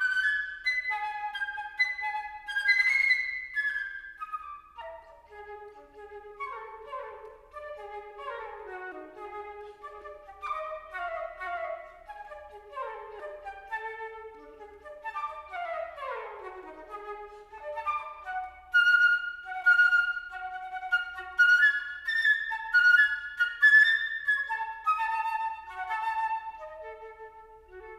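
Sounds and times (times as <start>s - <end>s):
solo flute playing: 0.0s - 27.9s.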